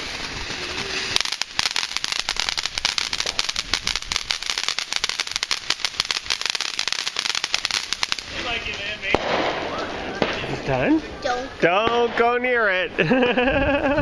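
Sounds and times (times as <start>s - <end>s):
firework spraying hiss: 0.0s - 11.2s
firework crackling pops: 0.0s - 12.6s.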